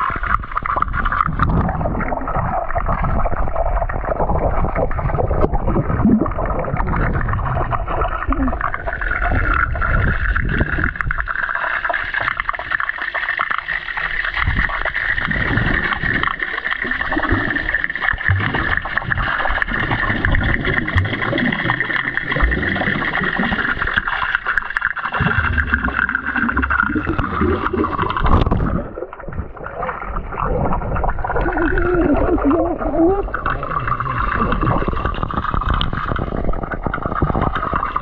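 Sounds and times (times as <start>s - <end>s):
bubbles rising: 0.0s - 38.0s
muffled underwater water noise: 0.0s - 38.0s
underwater gurgles and thumps: 0.0s - 38.0s.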